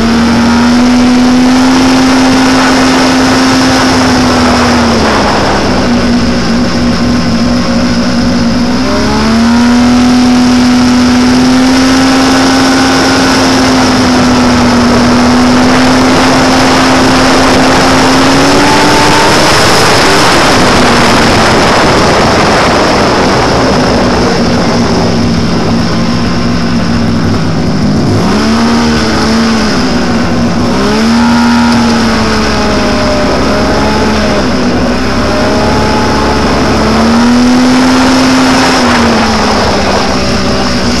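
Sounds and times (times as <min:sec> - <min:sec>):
snowmobile engine running: 0:00.0 - 0:41.0
steady rush of noise: 0:00.0 - 0:41.0.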